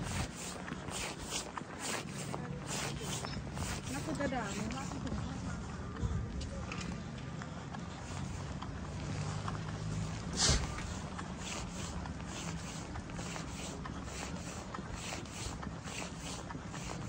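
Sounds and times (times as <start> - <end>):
footsteps on wet pavement: 0.0 - 17.0.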